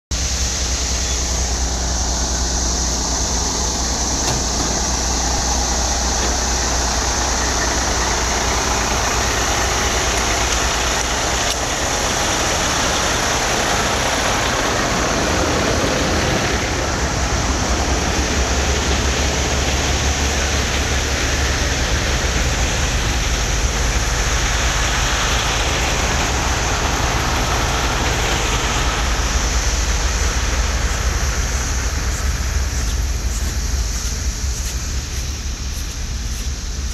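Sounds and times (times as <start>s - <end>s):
hissing rush: 0.1s - 36.9s
vacuum truck droning: 0.1s - 36.9s.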